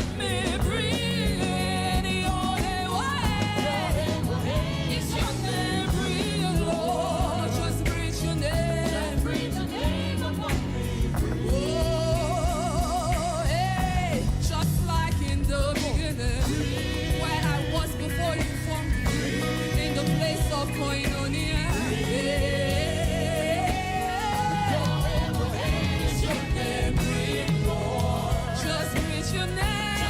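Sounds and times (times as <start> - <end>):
bass line: 0.0 - 30.0
person singing with vibrato: 0.0 - 30.0
piano: 0.0 - 30.0.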